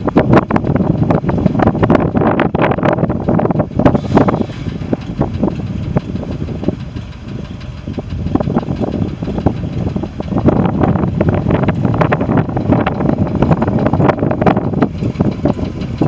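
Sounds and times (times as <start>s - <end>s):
truck engine idling: 0.0s - 16.0s
wind buffeting microphone: 0.0s - 16.0s.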